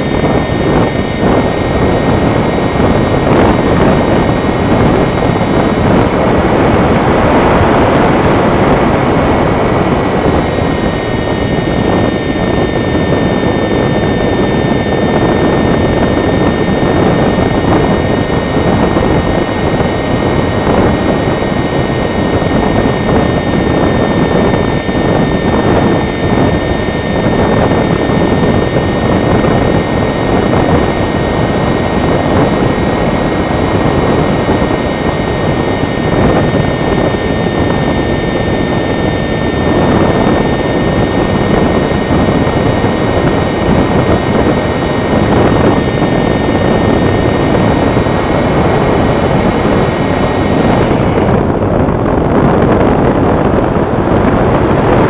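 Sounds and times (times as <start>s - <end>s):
electric motor and propeller whining: 0.0s - 55.0s
wind noise on microphone: 0.0s - 55.0s.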